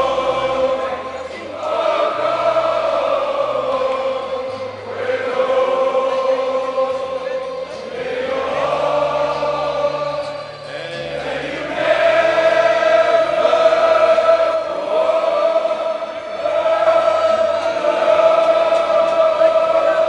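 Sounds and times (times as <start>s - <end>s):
stadium crowd singing: 0.0s - 20.0s.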